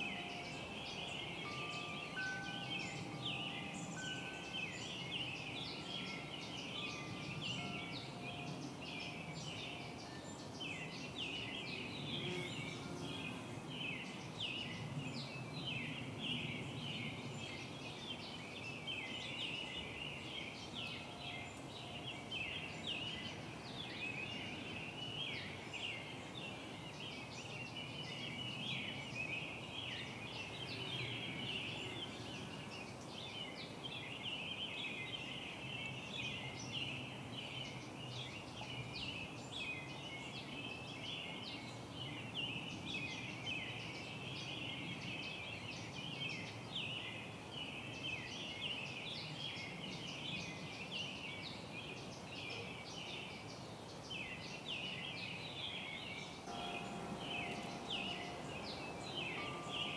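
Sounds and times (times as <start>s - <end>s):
small birds twittering: 0.0s - 59.9s.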